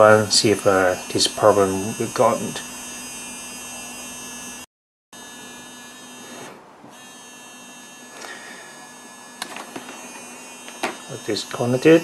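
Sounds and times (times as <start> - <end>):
phone vibration motor buzzing: 0.0 - 12.0.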